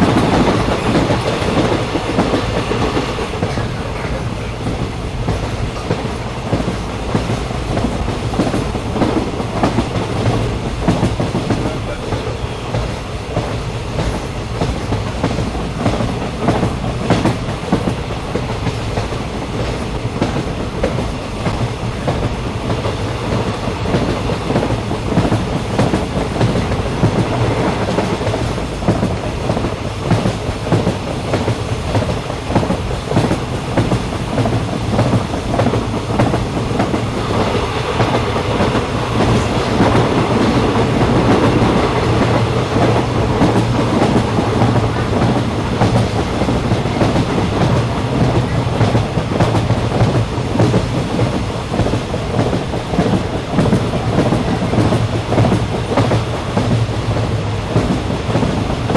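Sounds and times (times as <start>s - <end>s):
train rumbling: 0.0s - 58.9s.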